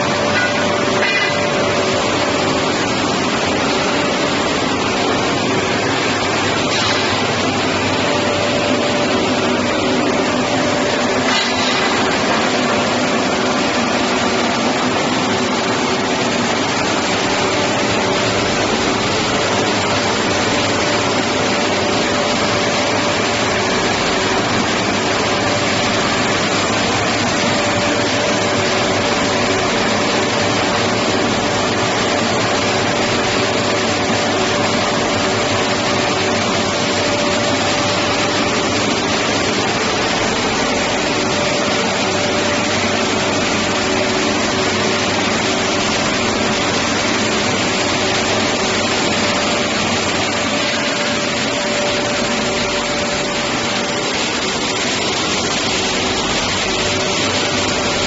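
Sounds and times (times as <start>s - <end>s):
shot blasting machine noise: 0.0s - 58.0s
steady machine hum: 0.0s - 58.0s.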